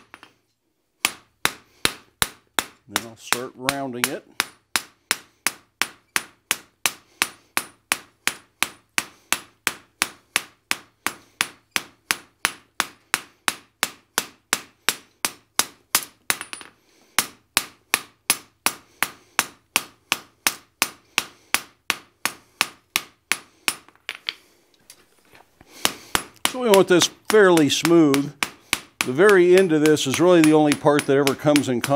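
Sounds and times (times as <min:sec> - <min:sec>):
hammer striking hot steel on anvil: 0:01.0 - 0:16.6, 0:17.2 - 0:23.9, 0:25.8 - 0:31.9.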